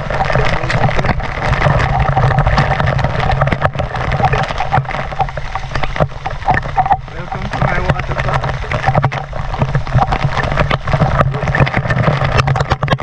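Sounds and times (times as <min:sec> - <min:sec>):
rushing and splashing water: 0:00.0 - 0:13.0
steady low rumble: 0:00.0 - 0:13.0.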